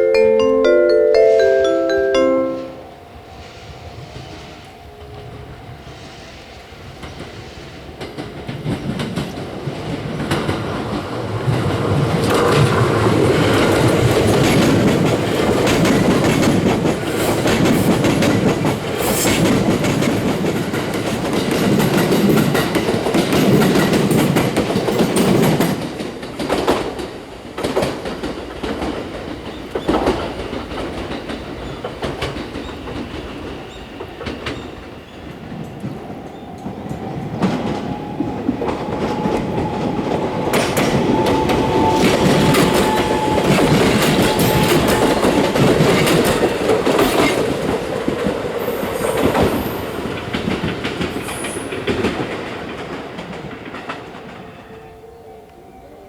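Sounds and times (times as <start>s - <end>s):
electric train passing: 0.0s - 56.0s
train wheels clacking over rail joints: 7.0s - 54.6s.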